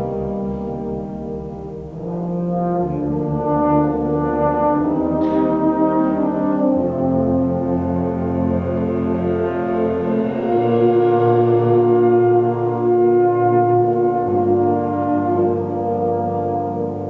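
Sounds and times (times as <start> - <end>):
concert band brass chords: 0.0 - 17.0.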